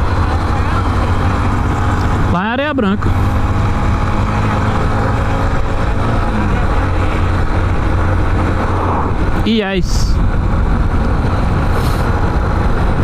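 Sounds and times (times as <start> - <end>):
motorcycle engine running: 0.0 - 13.0
wind rush: 0.0 - 13.0.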